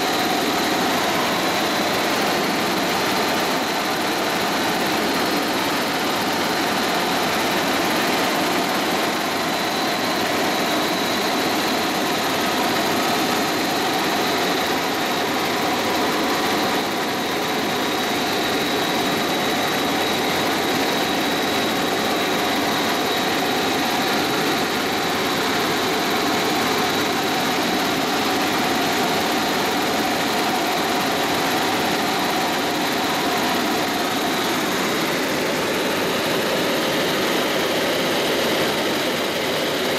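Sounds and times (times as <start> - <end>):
helicopter engine and rotors roaring: 0.0 - 39.9.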